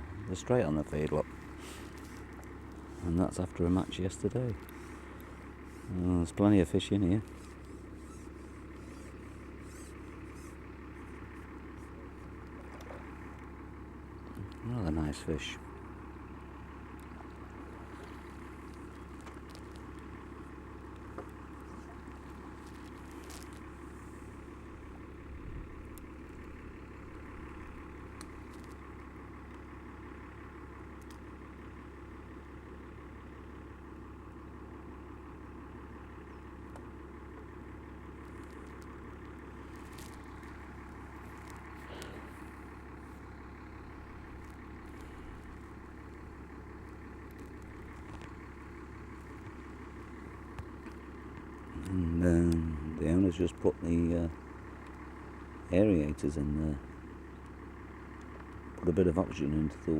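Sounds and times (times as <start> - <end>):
pond aerator humming: 0.0 - 59.9.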